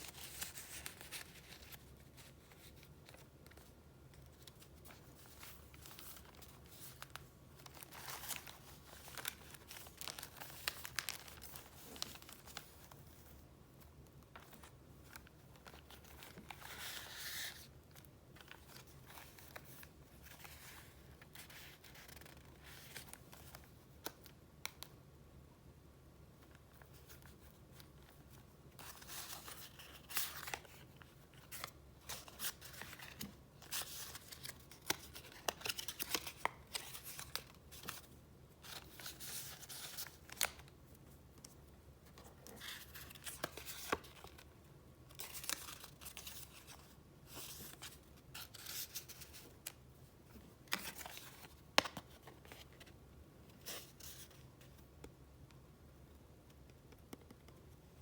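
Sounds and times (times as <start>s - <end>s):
paper rustling and crinkling: 0.0s - 24.8s, 26.4s - 40.7s, 41.4s - 44.5s, 45.1s - 53.0s.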